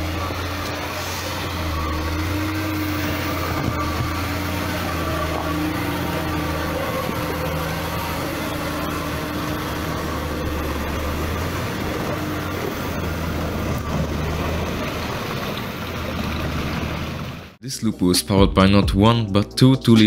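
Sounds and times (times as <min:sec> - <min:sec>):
suv engine running: 0:00.0 - 0:17.6.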